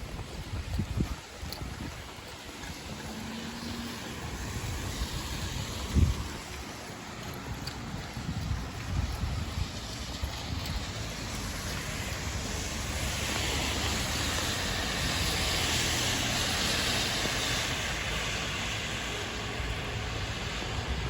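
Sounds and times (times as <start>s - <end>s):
rain: 0.0s - 21.0s
tyres hissing on wet road: 0.0s - 21.0s
wind: 0.0s - 21.0s.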